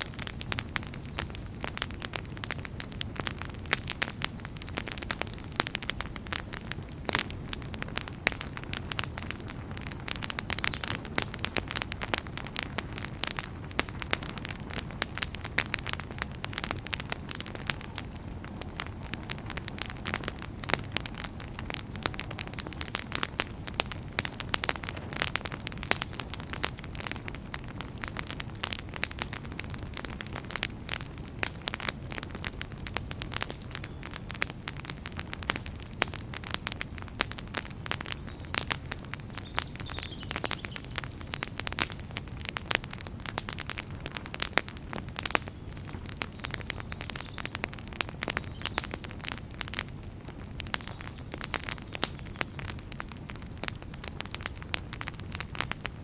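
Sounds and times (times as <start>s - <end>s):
fire crackling and popping: 0.0s - 56.0s
rumble of flames: 0.0s - 56.0s.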